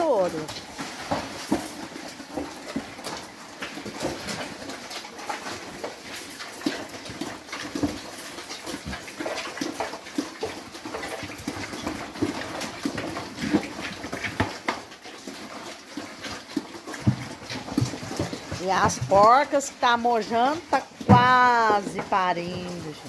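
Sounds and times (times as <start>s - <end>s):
pigs chomping and slurping: 0.0s - 23.0s.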